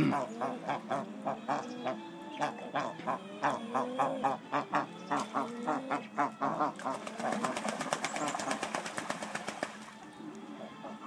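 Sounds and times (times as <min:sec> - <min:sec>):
ducks calling: 0:00.0 - 0:11.0.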